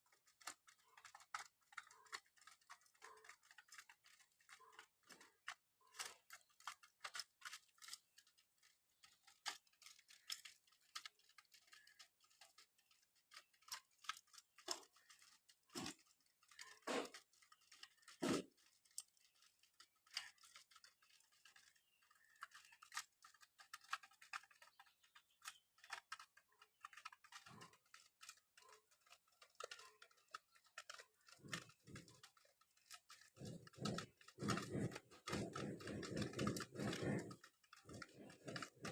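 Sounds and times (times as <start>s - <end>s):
pigeons pecking: 0.0s - 38.9s.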